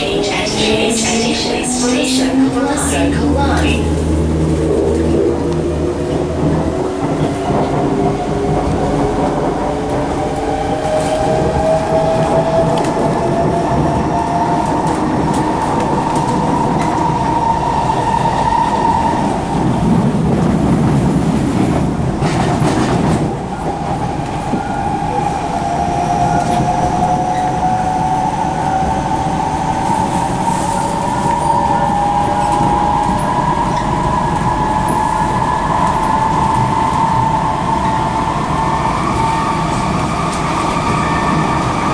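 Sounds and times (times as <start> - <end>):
wheels rumbling on rail: 0.0 - 41.9.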